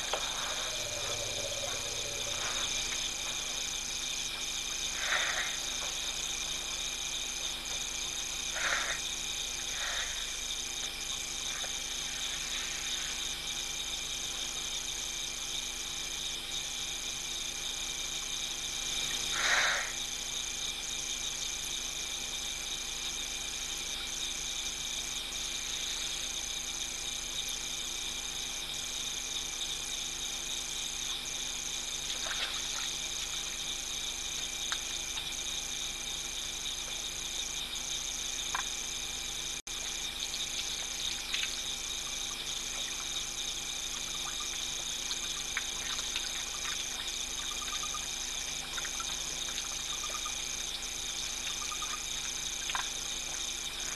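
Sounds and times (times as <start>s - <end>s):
crickets and insects trilling: 0.0s - 53.9s.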